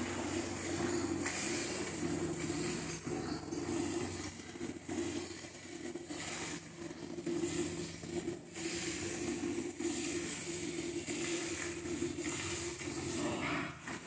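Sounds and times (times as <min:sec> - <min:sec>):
milk jets hissing into pail: 0:00.0 - 0:14.0.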